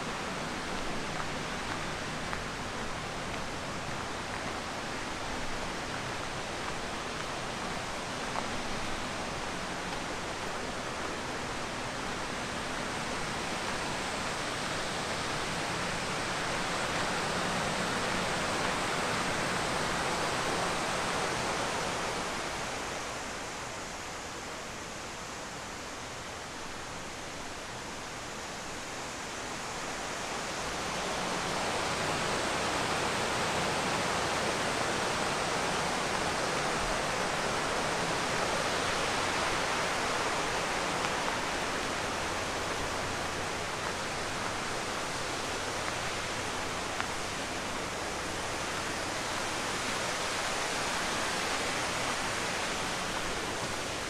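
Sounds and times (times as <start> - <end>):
rushing river water: 0.0 - 54.0.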